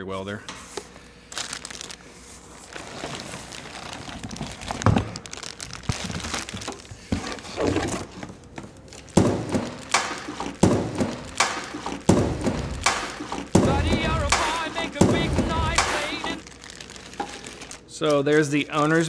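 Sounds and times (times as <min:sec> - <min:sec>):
plastic bag crinkling: 0:01.0 - 0:17.8.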